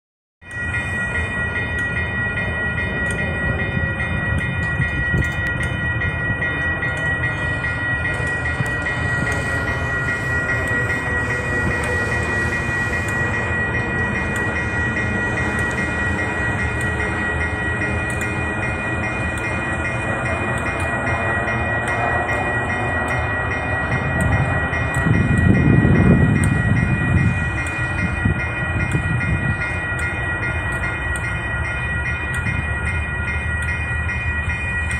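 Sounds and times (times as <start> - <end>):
diesel train rumble: 0.4 - 34.9
level crossing bells ringing: 0.4 - 34.9.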